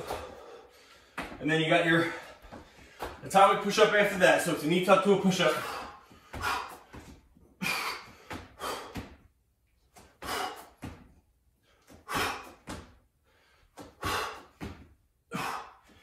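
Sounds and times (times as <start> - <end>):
man breathing hard: 0.0 - 3.2, 5.3 - 16.0.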